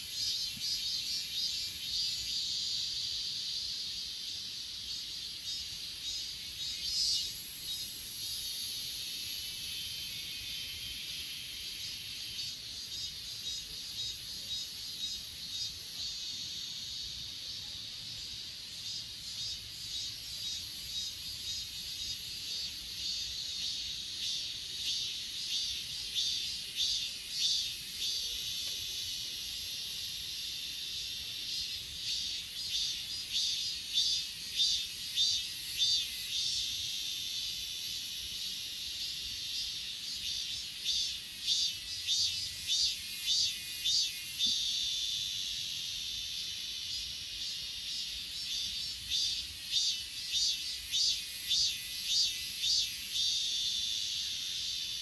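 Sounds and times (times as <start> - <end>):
insects singing: 0.0 - 55.0.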